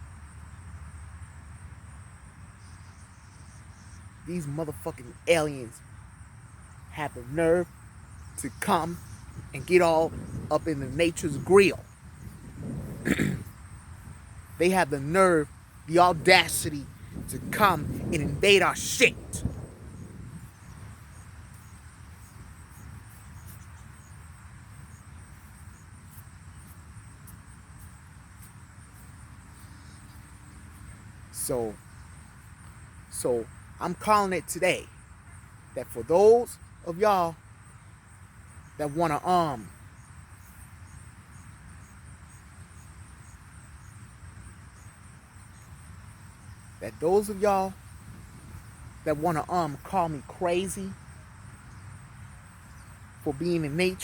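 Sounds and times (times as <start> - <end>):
crickets trilling: 0.0 - 54.0
insect chirping: 0.0 - 54.0.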